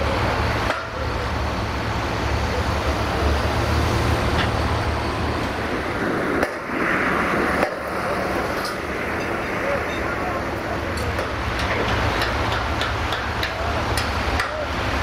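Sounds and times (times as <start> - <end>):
diesel engine idling: 0.0 - 15.0
heavy truck passing: 0.0 - 15.0
road traffic: 0.0 - 15.0.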